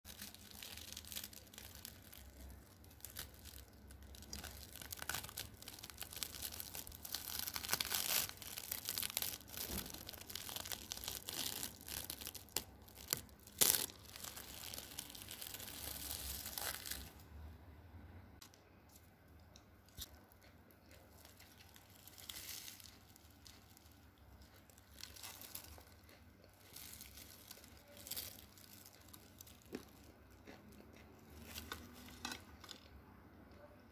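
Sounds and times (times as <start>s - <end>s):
pastry crust crackling: 0.0s - 17.4s, 18.4s - 33.0s.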